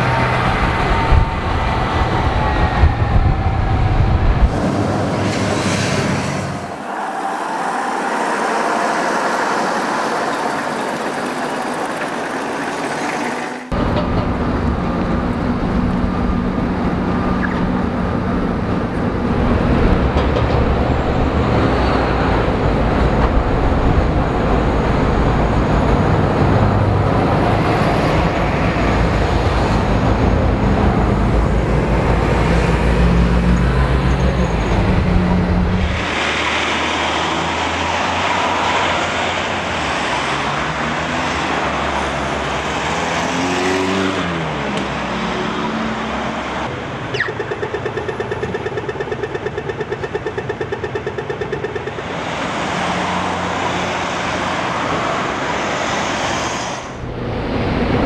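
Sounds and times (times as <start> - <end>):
diesel bus engines running: 0.0 - 58.0
street traffic passing: 0.0 - 58.0.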